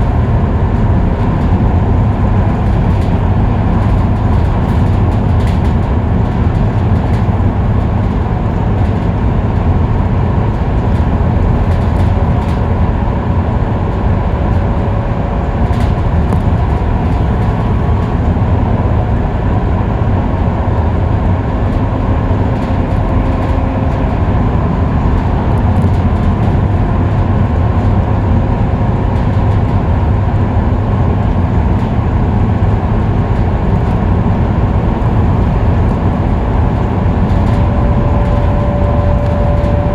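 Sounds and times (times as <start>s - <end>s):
bus diesel engine rumble: 0.0s - 39.9s
road noise: 0.0s - 39.9s.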